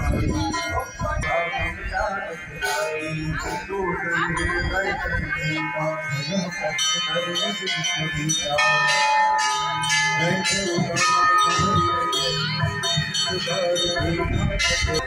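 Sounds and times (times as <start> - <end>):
brass bells ringing: 0.0 - 15.0.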